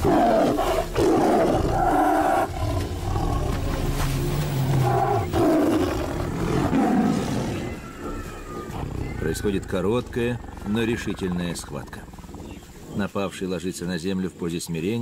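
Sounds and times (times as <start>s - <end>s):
tigers roaring and snarling: 0.0s - 13.6s.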